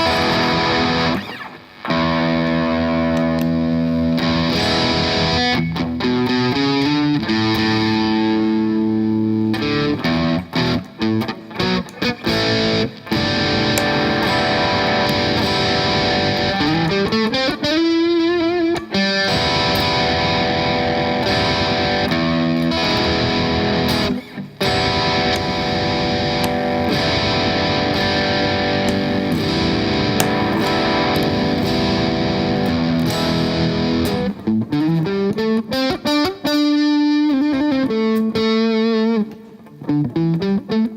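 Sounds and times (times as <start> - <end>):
overdriven electric guitar: 0.0 - 40.9.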